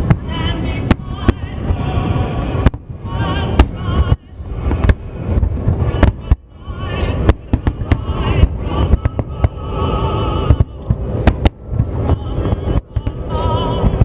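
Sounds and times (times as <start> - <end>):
fireworks bursting bangs: 0.0 - 14.0.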